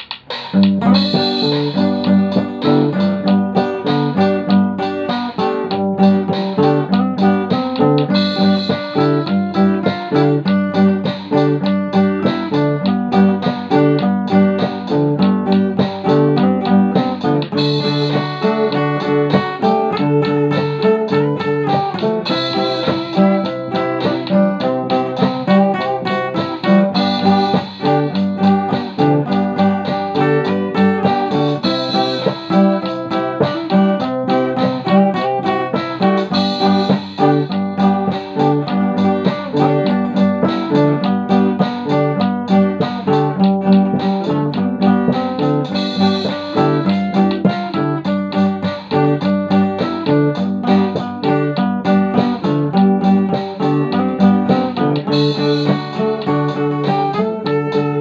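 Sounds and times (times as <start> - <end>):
guitar quickly picked notes: 0.0 - 58.0.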